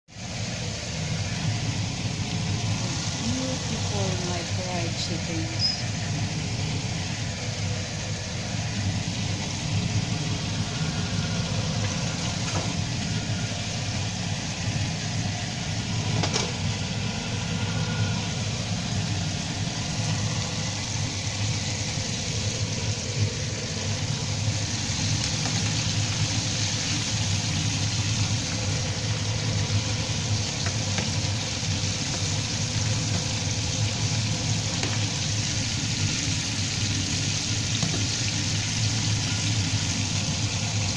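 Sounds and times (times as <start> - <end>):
chicken sizzling in hot oil: 0.1 - 40.9
low hum: 0.2 - 40.9.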